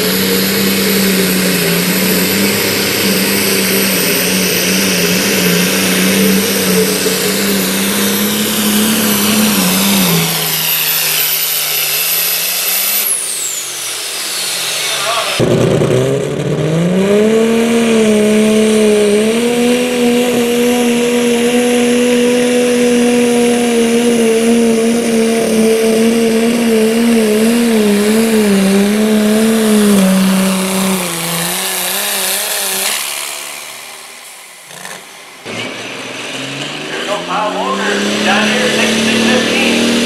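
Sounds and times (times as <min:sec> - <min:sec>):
tractor engine at high revs: 0:00.0 - 0:40.0.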